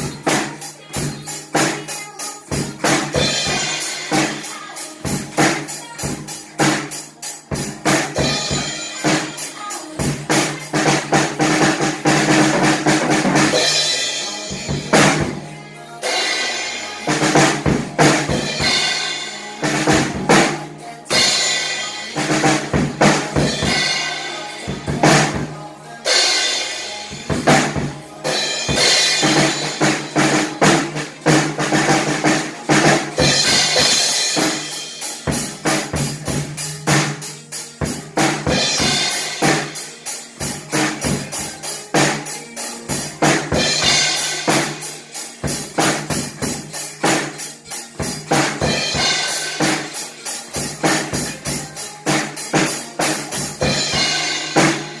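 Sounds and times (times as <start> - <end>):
drum kit playing a beat: 0.0 - 55.0
recorded pop song: 0.0 - 55.0.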